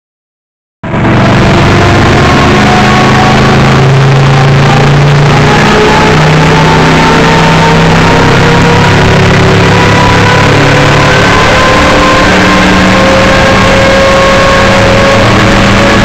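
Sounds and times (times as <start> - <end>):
aircraft engine running loudly: 0.8 - 16.0.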